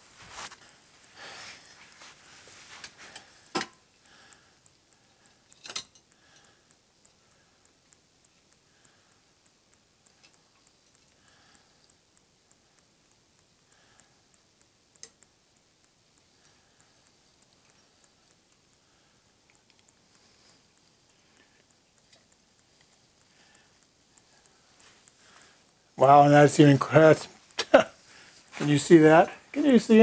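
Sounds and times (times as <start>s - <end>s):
faint even ticking: 0.0s - 30.0s.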